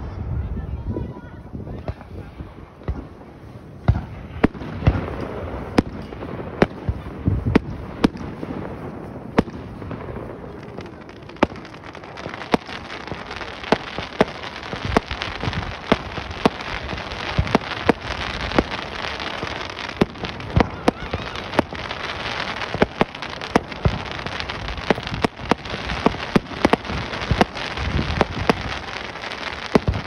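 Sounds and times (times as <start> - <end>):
fireworks bangs: 0.0 - 30.0
fireworks crackling hiss: 1.5 - 30.0.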